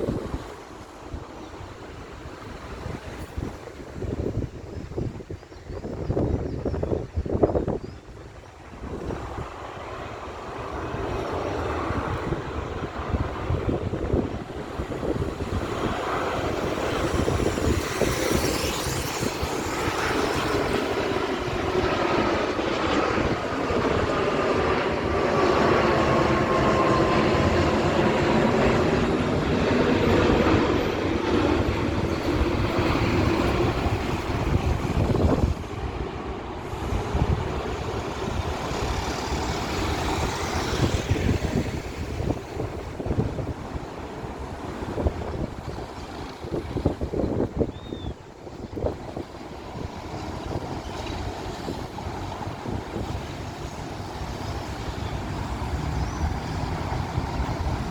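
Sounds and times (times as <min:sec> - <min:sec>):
jet engines roaring overhead: 0:00.0 - 0:57.9
wind rumble on microphone: 0:00.0 - 0:57.9.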